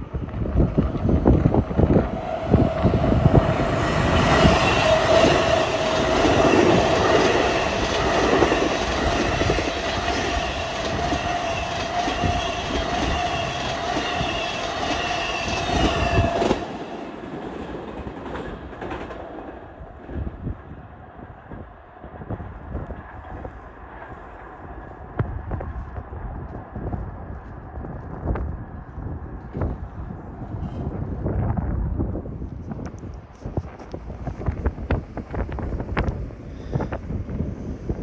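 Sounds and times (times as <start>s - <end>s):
faint train rumble: 0.0s - 38.0s
train whine: 0.0s - 38.0s.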